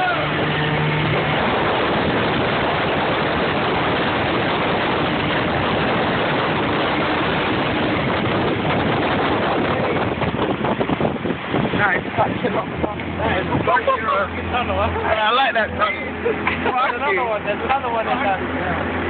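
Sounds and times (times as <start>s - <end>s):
boat motor echoing in tunnel: 0.0s - 19.0s.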